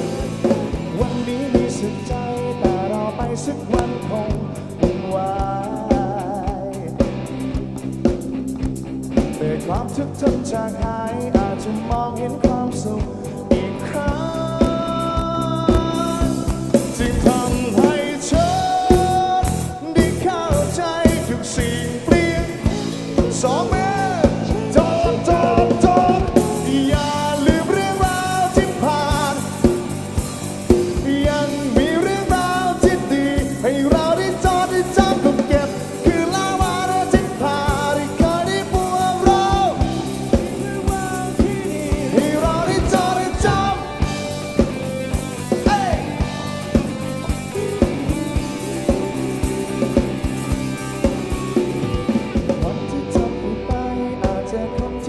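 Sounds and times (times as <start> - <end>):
man singing lead vocals: 0.0 - 7.6, 9.2 - 55.0
bass guitar: 0.0 - 55.0
drum kit beat: 0.0 - 55.0
electric guitar: 0.0 - 55.0.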